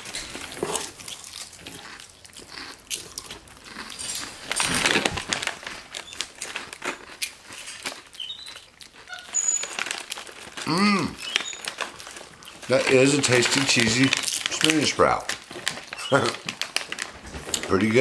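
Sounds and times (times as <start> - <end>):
crunching and chewing: 0.0 - 18.0
plastic snack bag crinkling: 0.0 - 18.0.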